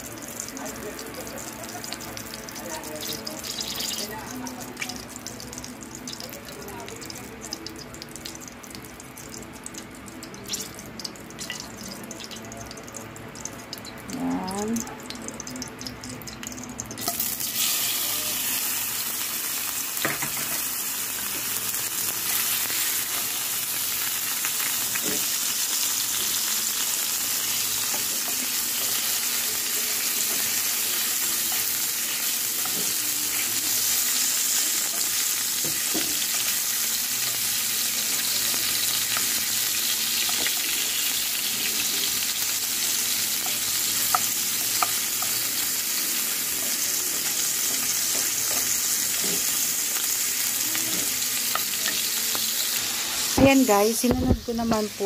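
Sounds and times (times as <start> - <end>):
meat sizzling in oil: 0.0 - 55.0.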